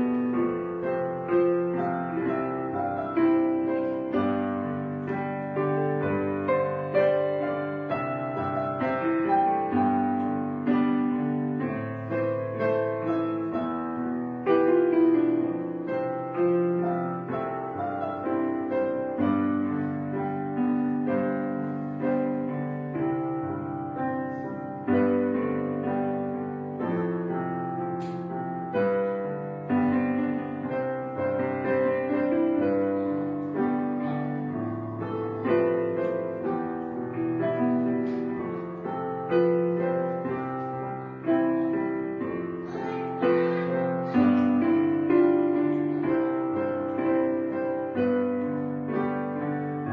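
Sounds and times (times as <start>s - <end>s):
gentle solo piano: 0.0s - 49.9s.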